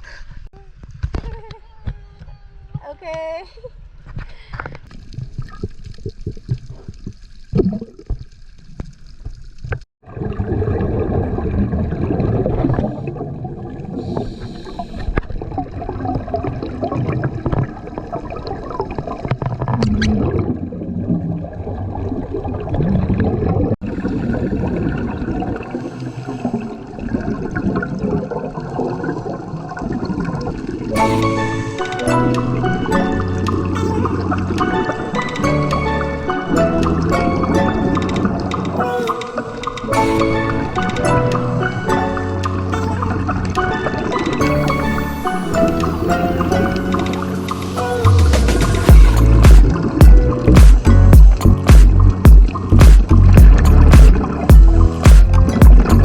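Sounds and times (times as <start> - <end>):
water splashing and sloshing: 3.8 - 56.0
underwater regulator bubbles: 4.9 - 8.8, 10.0 - 56.0.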